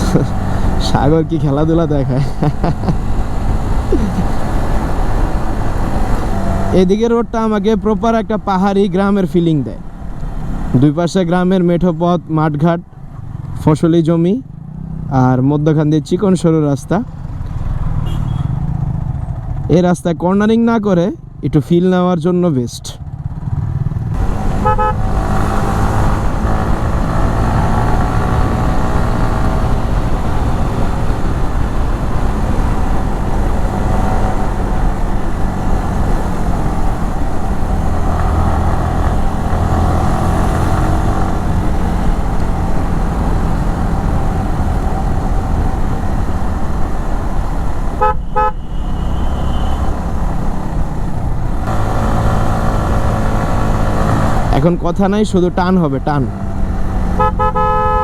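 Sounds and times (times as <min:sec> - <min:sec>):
motorcycle engine revving at speed: 0:00.0 - 0:08.9, 0:17.1 - 0:19.8, 0:23.0 - 0:58.0.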